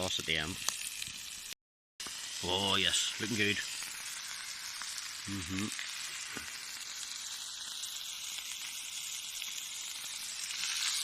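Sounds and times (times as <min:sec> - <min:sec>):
steak sizzling: 0:00.0 - 0:11.0.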